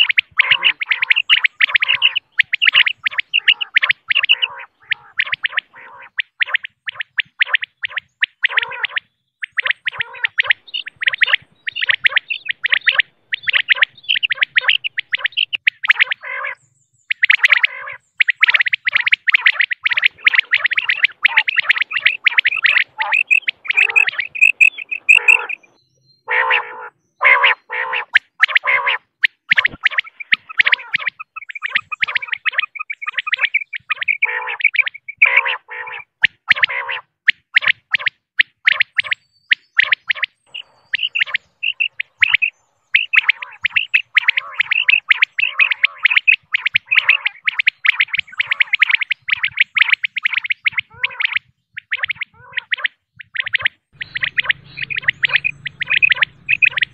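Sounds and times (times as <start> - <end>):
quail calling: 0.0 - 56.9.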